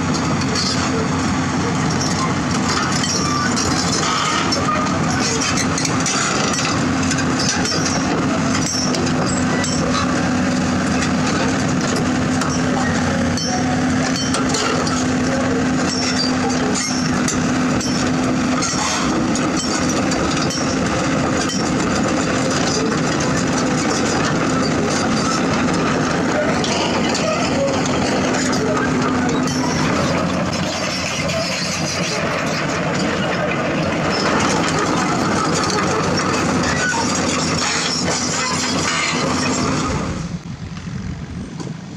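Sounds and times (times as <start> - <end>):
steel tracks clanking: 0.0 - 40.4
excavator diesel engine humming: 0.0 - 41.9.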